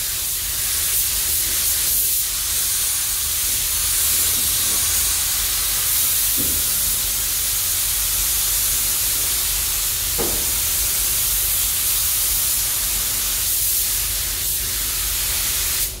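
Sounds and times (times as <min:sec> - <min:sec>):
paint spray guns hissing: 0:00.0 - 0:16.0.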